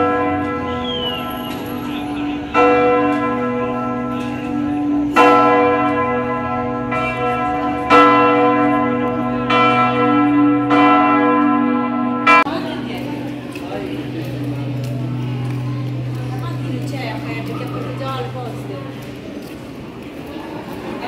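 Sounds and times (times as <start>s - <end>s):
church bells ringing: 0.0s - 20.8s.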